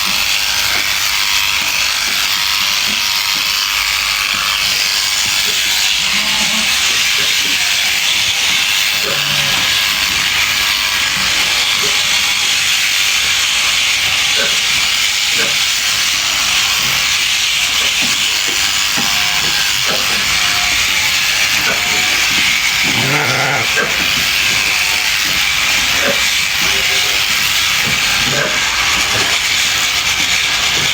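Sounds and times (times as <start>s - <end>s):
electric sheep shears hissing: 0.0s - 30.9s.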